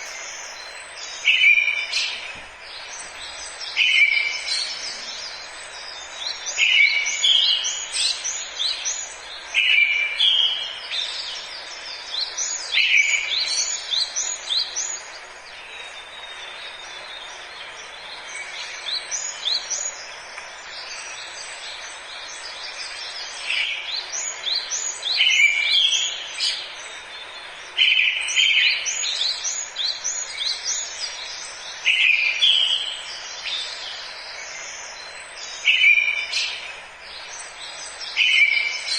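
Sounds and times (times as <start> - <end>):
songbird chirping: 0.0 - 38.9
steady background hiss: 0.0 - 38.9.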